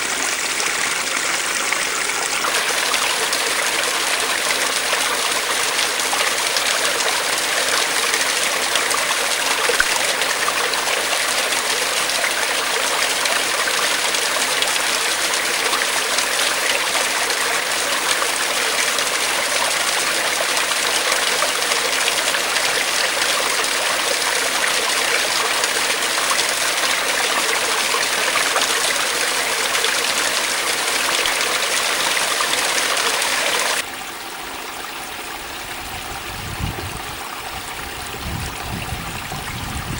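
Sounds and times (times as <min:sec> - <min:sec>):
stream splashing over rocks: 0:00.0 - 0:36.2.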